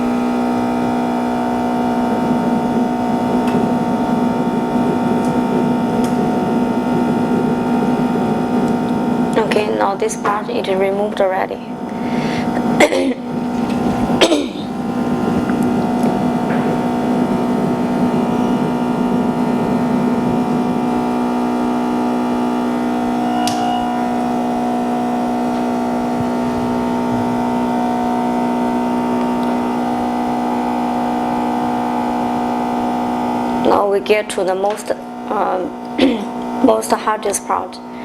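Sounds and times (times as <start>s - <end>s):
electrical machine hum: 0.0s - 38.0s.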